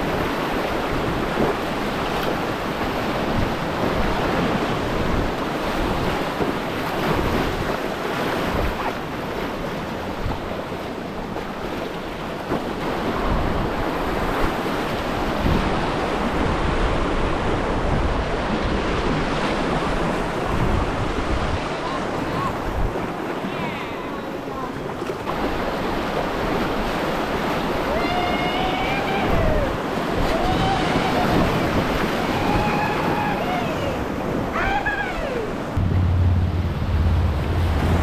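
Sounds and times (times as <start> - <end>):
wind buffeting microphone: 0.0 - 24.2, 28.7 - 38.0
whitewater river rushing: 0.0 - 38.0.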